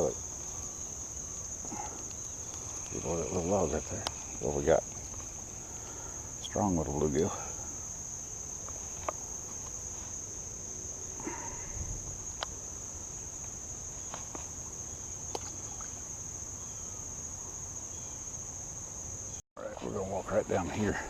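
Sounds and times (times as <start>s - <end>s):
crickets buzzing: 0.0s - 21.0s.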